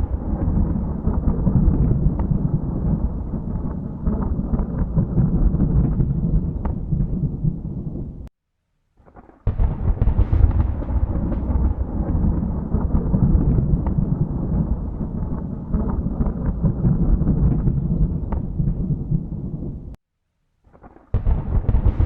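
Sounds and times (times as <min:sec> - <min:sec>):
thunder rumbling: 0:00.0 - 0:08.3, 0:09.5 - 0:20.0, 0:21.2 - 0:22.0.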